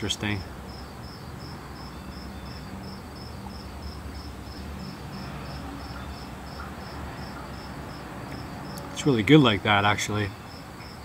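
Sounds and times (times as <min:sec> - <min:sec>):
cricket chirping: 0:00.0 - 0:11.0
low city rumble: 0:00.0 - 0:11.0.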